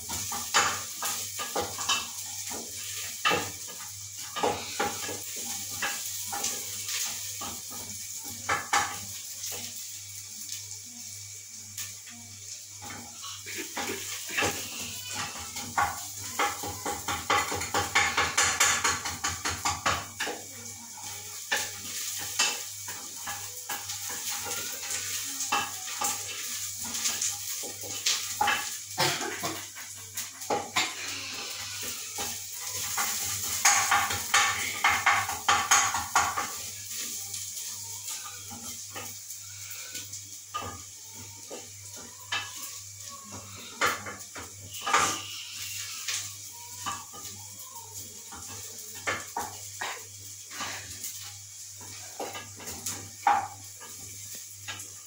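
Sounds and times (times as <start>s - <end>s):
food sizzling: 0.0s - 55.0s.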